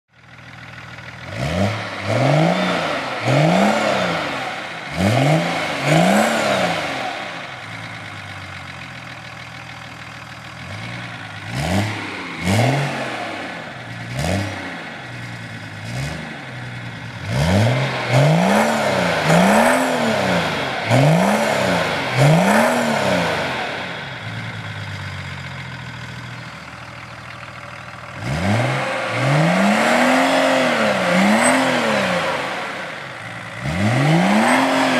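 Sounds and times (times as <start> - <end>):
diesel engine revving: 0.2 - 34.9.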